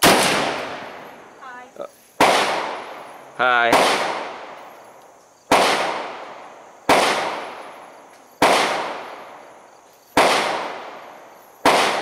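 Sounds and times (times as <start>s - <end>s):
rifle shots echoing: 0.0s - 1.3s, 2.2s - 4.7s, 5.5s - 9.5s, 10.1s - 12.0s.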